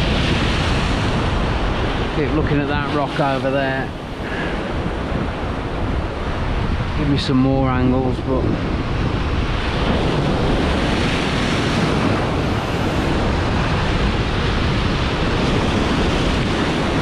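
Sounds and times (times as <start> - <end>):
heavy surf breaking: 0.0 - 17.0
wind buffeting microphone: 0.0 - 17.0.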